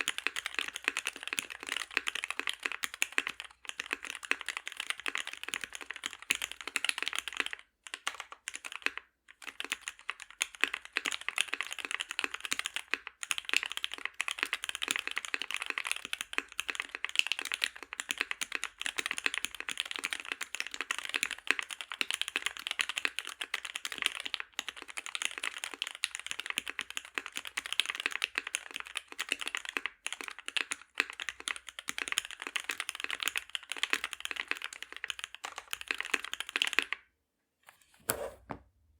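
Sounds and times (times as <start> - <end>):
mechanical keyboard typing: 0.0 - 37.0.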